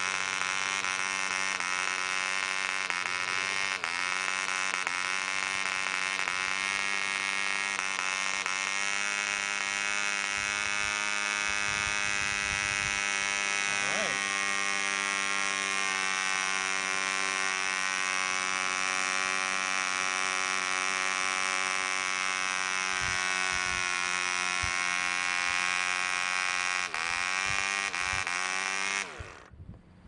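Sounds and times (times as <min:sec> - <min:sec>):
model engine buzzing: 0:00.0 - 0:29.6.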